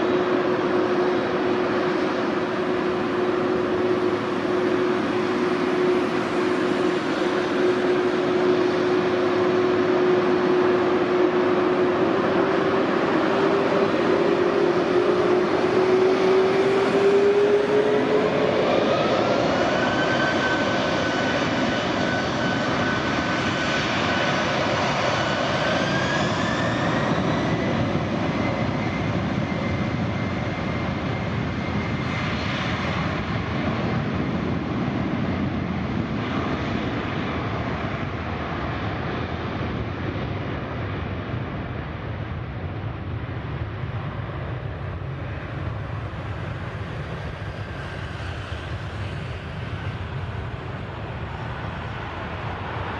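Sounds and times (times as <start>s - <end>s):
broad jet engine noise: 0.0s - 52.9s
jet engine whine: 0.0s - 52.9s.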